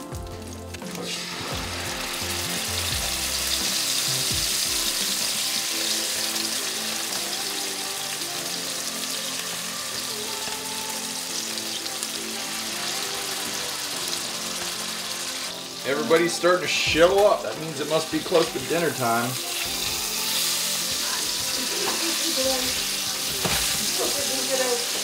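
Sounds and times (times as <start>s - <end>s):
fish sizzling in hot oil: 0.0s - 25.0s.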